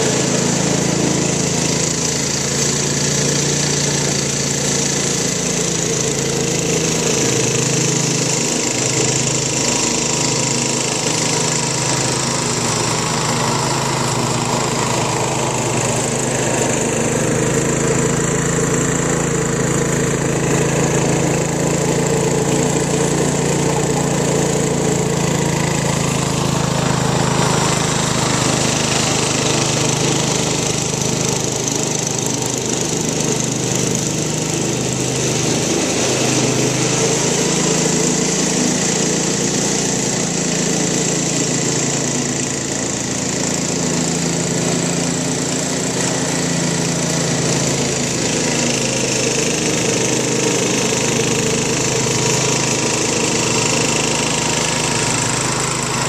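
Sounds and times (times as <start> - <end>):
garden tractor engine mowing: 0.0 - 56.0.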